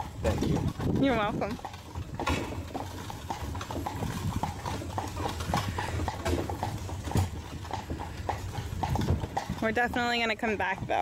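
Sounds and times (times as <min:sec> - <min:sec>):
hooves clip-clopping on pavement: 0:00.0 - 0:11.0.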